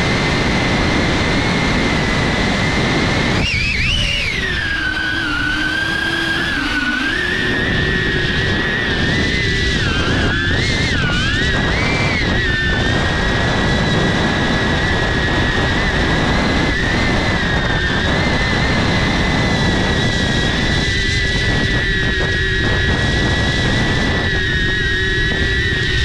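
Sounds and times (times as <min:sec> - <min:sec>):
drone motors whining: 0:00.0 - 0:26.0
propeller wash rushing: 0:00.0 - 0:26.0.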